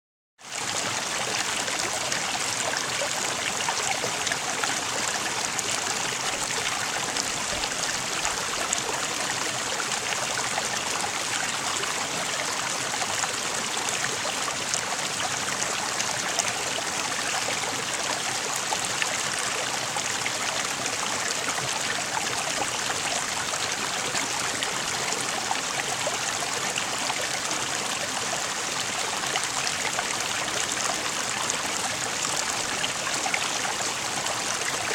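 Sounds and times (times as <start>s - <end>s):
stream water running: 0.4s - 34.9s.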